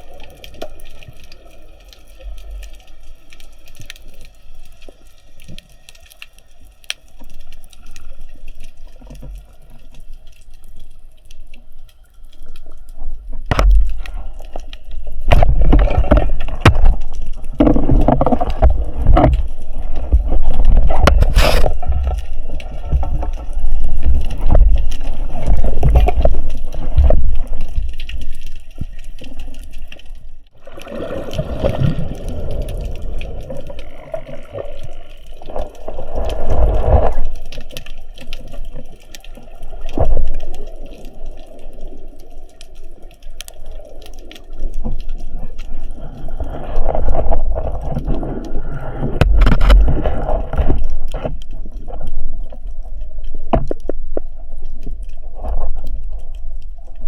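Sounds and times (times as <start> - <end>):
water sloshing and gurgling: 0.0 - 57.0.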